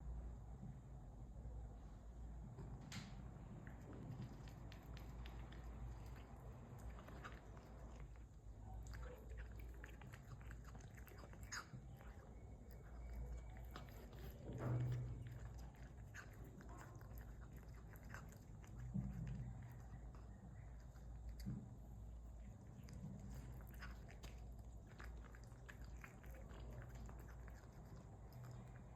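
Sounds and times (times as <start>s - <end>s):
low steady hum: 0.0s - 28.9s
cat chewing and crunching: 3.0s - 28.9s.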